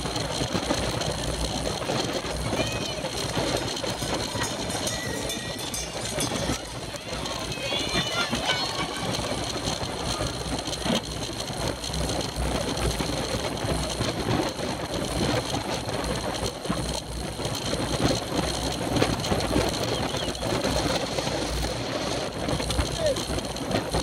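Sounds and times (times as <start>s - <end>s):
bicycle road rumble: 0.0s - 24.0s
rushing wind: 0.0s - 24.0s.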